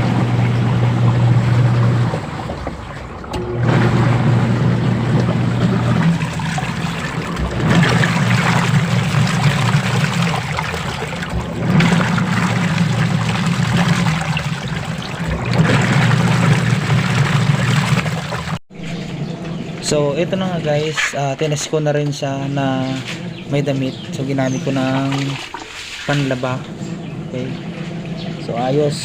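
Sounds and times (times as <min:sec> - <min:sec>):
washing machine motor hum: 0:00.0 - 0:29.0
water churning and sloshing: 0:00.0 - 0:29.0.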